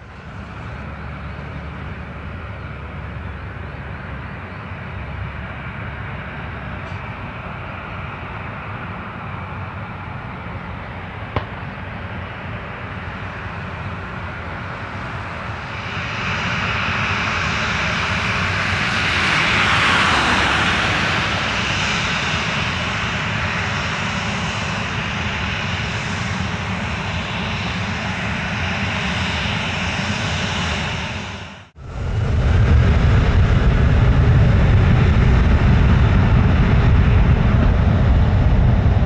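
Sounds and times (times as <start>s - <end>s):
jet engines whine and rumble: 0.0s - 39.0s.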